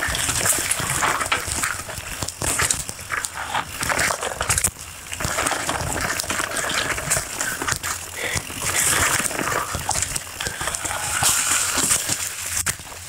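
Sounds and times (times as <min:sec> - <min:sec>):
bike rattling and knocking: 0:00.0 - 0:13.0
tyres crunching through dry leaves: 0:00.0 - 0:13.0.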